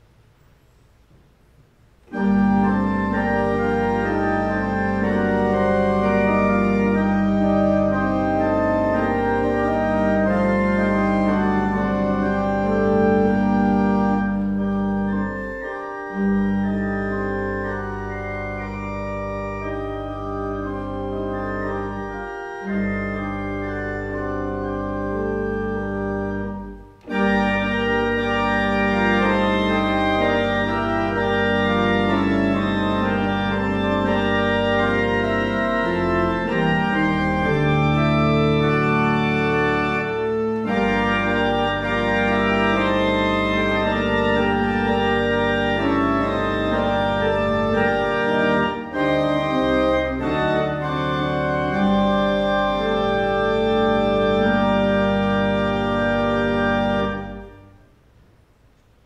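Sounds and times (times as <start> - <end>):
pipe organ playing chords: 1.8 - 58.0.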